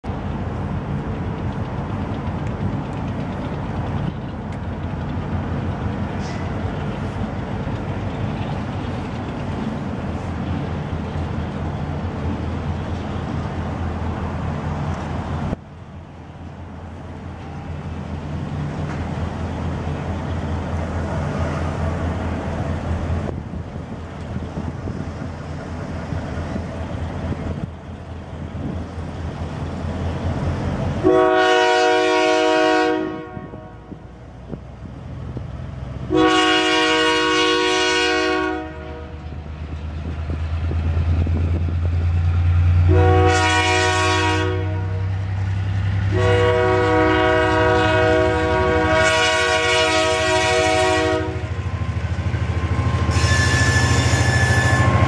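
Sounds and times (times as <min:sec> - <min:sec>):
locomotive engine rumbling: 0:00.0 - 0:55.0.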